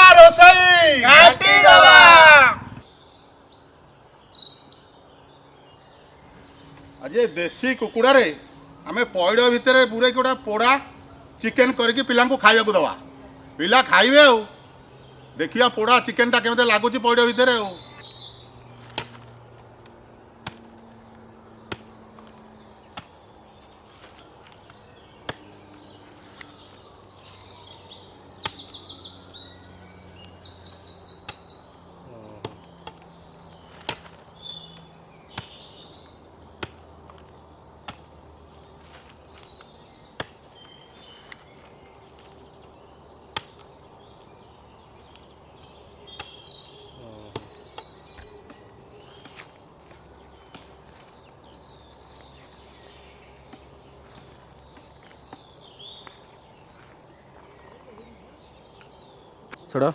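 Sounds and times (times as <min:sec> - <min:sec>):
birds chirping trills: 0:00.0 - 0:59.9.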